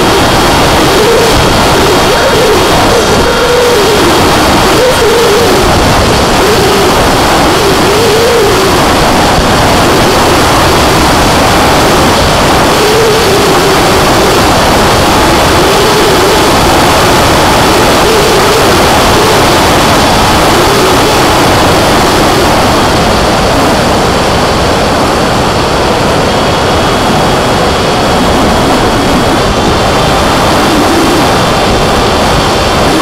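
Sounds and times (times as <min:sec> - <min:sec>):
electric motor and propeller whine: 0:00.0 - 0:33.0
wind noise on microphone: 0:00.0 - 0:33.0.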